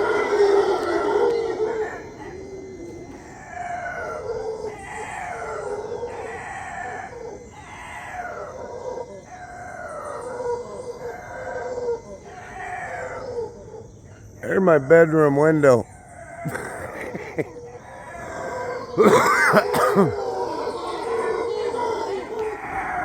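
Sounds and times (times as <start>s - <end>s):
howler monkeys howling: 0.0s - 23.0s.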